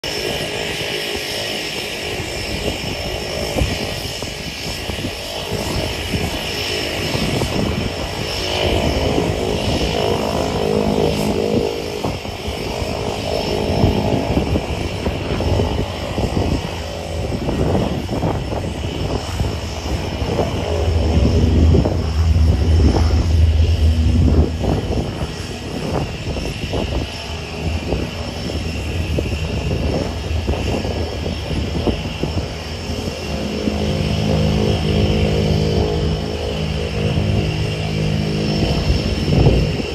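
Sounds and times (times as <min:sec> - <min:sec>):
propeller plane climbing overhead: 0:00.0 - 0:39.9.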